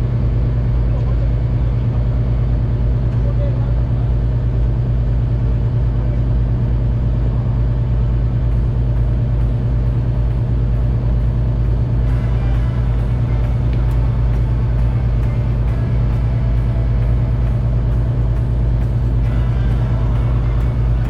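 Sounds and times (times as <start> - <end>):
boat diesel engine droning: 0.0 - 21.0.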